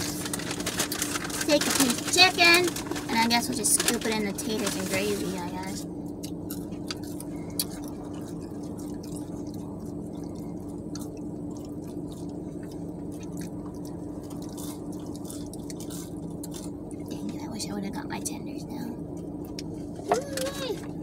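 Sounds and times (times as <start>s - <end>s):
chewing fries: 0.0s - 17.4s
low car cabin hum: 0.0s - 21.0s.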